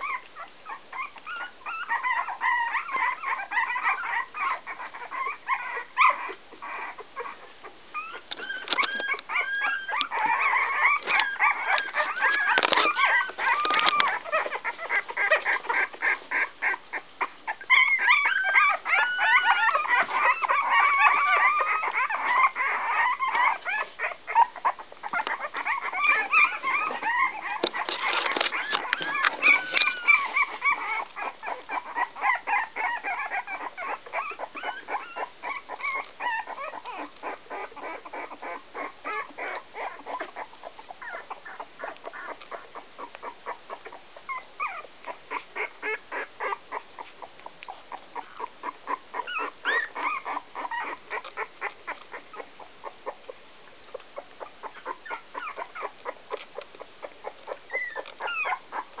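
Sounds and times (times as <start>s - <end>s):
puppies squeaking and whimpering: 0.0s - 59.0s.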